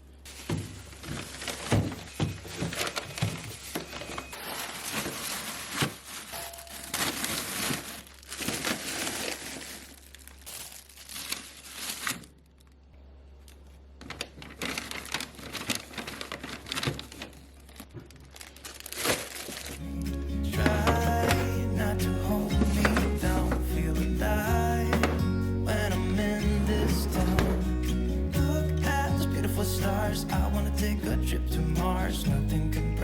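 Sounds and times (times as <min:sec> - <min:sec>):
plastic bags crinkling: 0:00.0 - 0:30.1.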